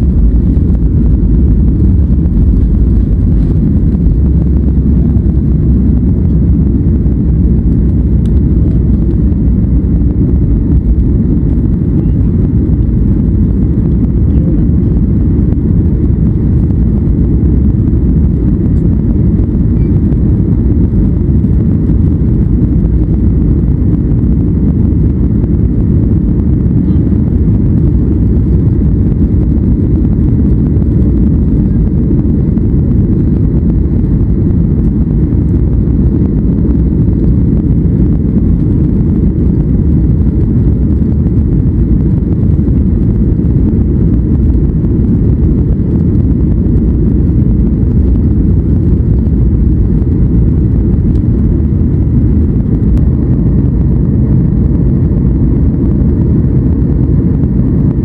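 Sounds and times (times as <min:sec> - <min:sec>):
jetliner cabin engine rumble: 0:00.0 - 0:58.0.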